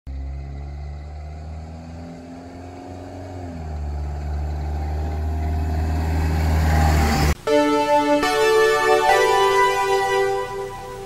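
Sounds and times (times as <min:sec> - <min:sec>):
diesel truck engine driving: 0:00.1 - 0:11.0.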